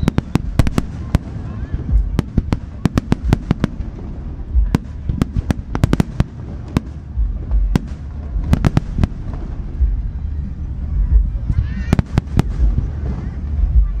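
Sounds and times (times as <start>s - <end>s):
fireworks bangs and cracks: 0.0s - 10.1s, 11.1s - 14.0s
deep fireworks booms: 0.0s - 14.0s
low steady rumble: 0.0s - 14.0s.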